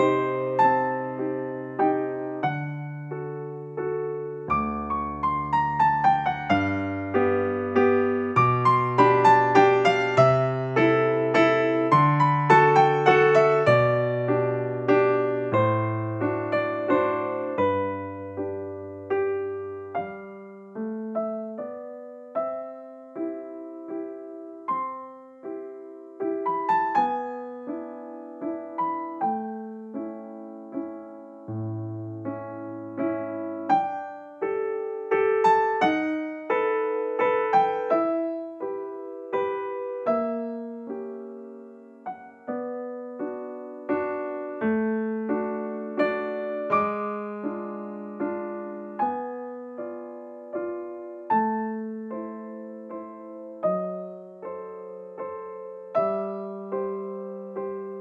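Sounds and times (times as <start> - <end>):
gentle slow piano piece: 0.0 - 58.0.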